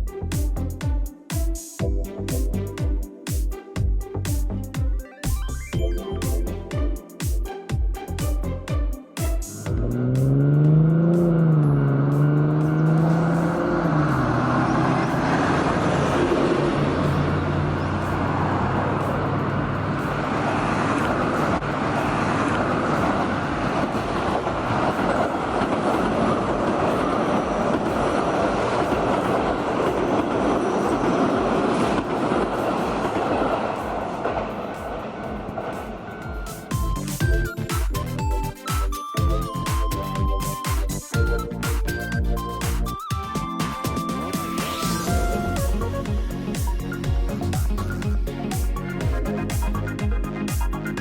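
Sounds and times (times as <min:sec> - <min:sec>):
vehicle running noise: 0:08.0 - 0:51.0.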